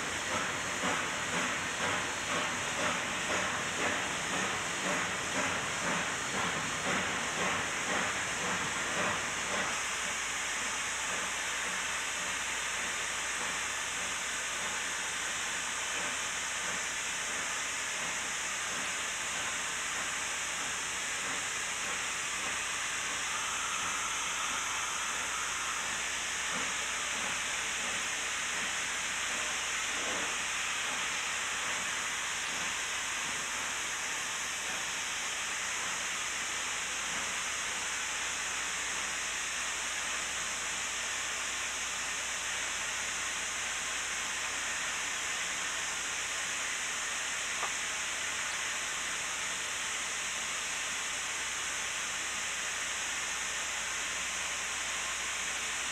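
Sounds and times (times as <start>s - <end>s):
steam hissing: 0.0s - 55.9s.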